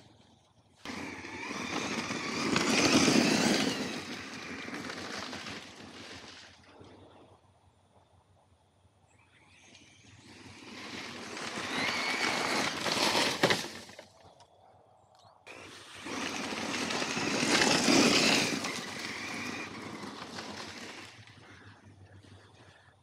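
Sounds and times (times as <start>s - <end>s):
rc truck motor whine: 0.0s - 7.4s, 9.0s - 14.6s, 15.5s - 23.0s
tyres on gravel and grass: 0.0s - 7.6s, 10.1s - 14.6s, 15.5s - 23.0s.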